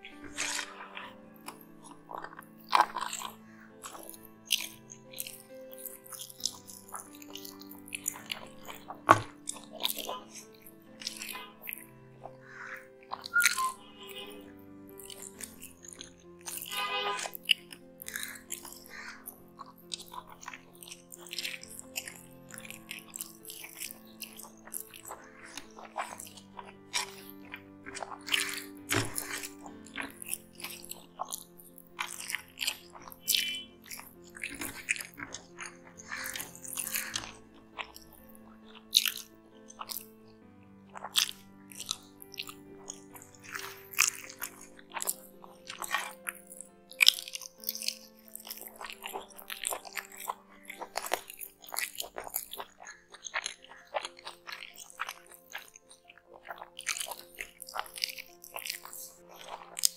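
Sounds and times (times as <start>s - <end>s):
man chewing with wet smacks: 0.0s - 59.9s
soft background music: 0.0s - 59.9s.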